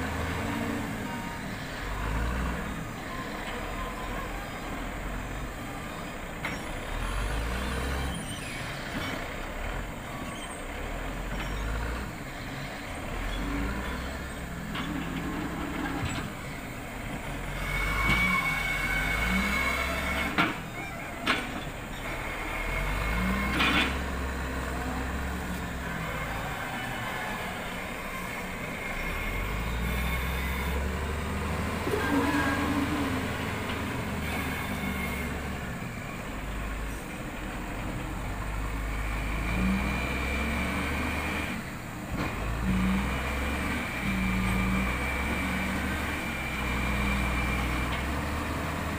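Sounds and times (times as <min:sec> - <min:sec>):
diesel engine revving under load: 0:00.0 - 0:48.9.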